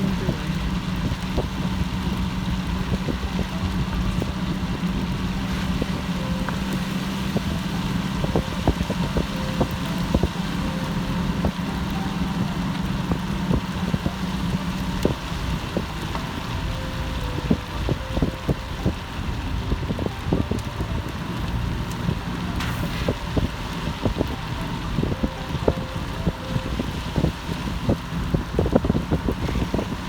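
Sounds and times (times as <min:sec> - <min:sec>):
car engine and tyres drone: 0:00.0 - 0:30.0
raindrops tapping: 0:00.0 - 0:30.0.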